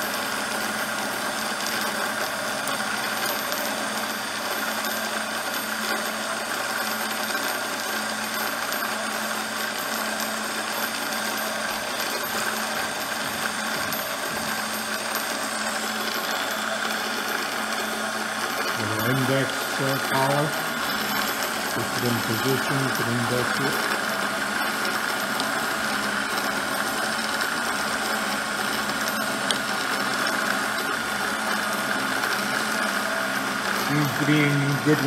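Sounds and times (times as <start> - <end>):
motor humming: 0.0 - 35.0.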